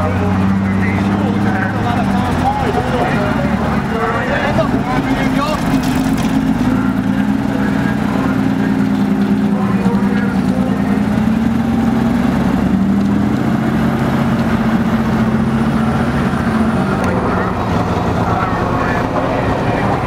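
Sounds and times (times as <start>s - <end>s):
lorry diesel engine running: 0.0s - 20.0s.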